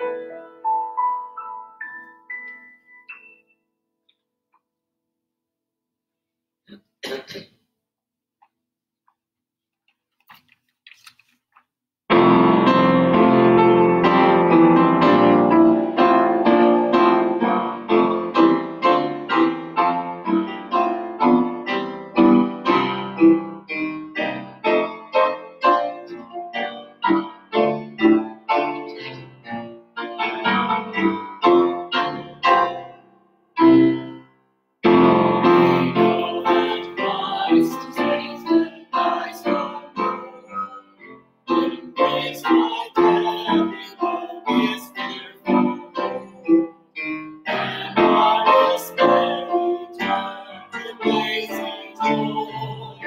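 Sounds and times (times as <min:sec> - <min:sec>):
piano music: 0:00.0 - 0:03.6, 0:12.1 - 0:53.0.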